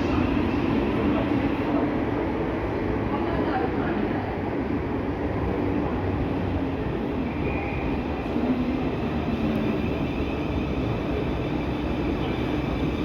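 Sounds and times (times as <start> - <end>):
electric train rumbling: 0.0 - 13.0
faint train whine: 0.0 - 13.0.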